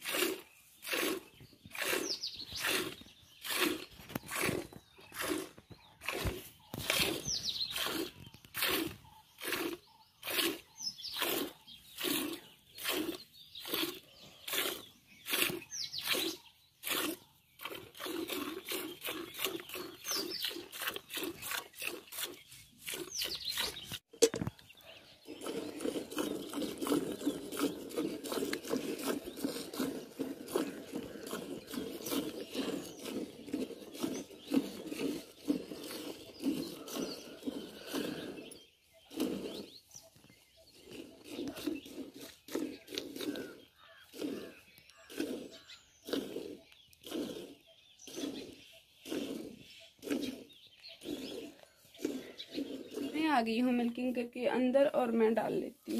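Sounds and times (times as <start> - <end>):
milk squirting into metal pail: 0.0 - 54.1.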